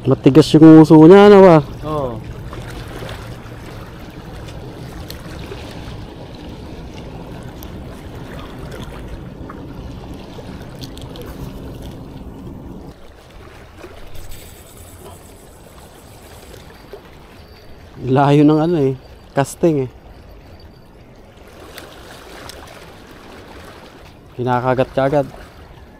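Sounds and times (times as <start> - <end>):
sea surf: 0.0 - 25.9
wind: 0.0 - 25.9.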